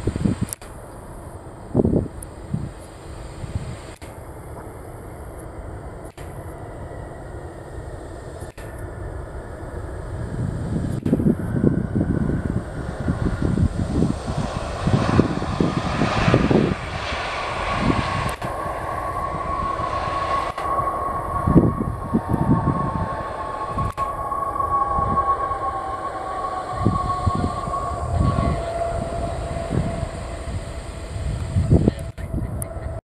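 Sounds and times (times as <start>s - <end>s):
jet engines whining: 0.0s - 33.0s
wind on microphone: 0.0s - 33.0s.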